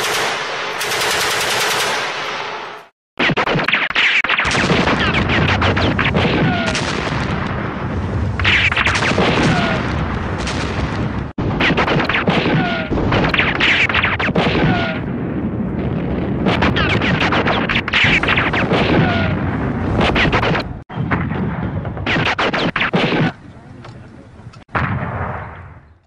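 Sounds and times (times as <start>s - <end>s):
continuous gunfire: 0.0s - 23.4s
explosions: 2.1s - 23.4s, 24.6s - 26.0s.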